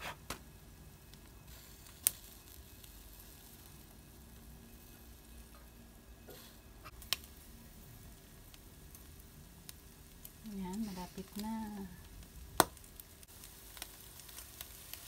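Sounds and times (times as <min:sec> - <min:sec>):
meat sizzling on a grill: 0:00.5 - 0:15.0.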